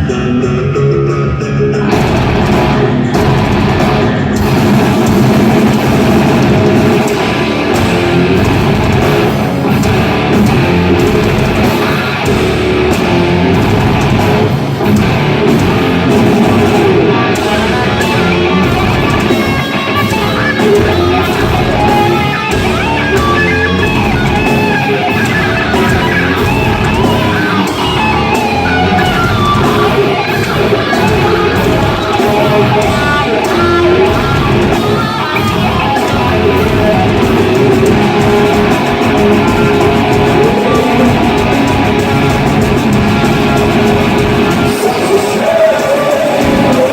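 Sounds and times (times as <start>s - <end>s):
distorted electric guitar riffing: 0.0s - 46.9s
drum kit: 1.8s - 46.9s.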